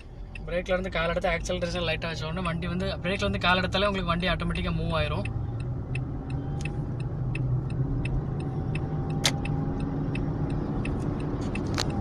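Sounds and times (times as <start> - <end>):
engine and road hum in car: 0.0 - 12.0
turn signal ticking: 0.0 - 12.0.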